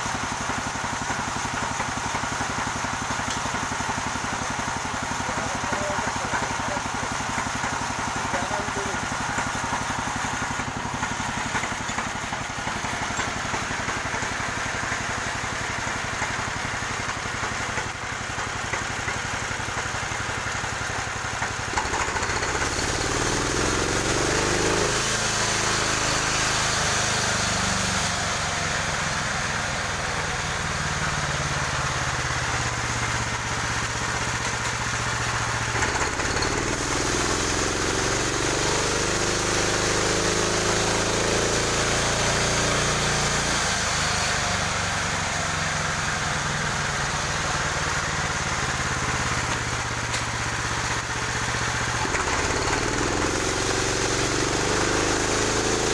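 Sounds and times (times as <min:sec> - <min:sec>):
band saw cutting log: 0:00.0 - 0:17.9, 0:21.4 - 0:55.9
sawmill engine running: 0:00.0 - 0:55.9.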